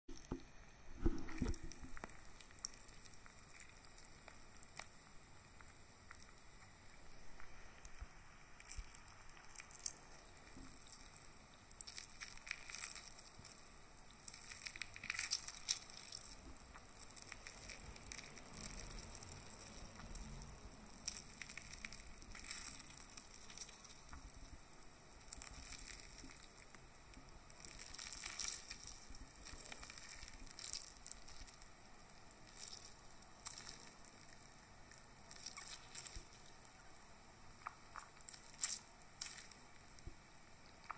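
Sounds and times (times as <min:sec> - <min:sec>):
fruit pulp squelching: 0:01.0 - 0:40.9.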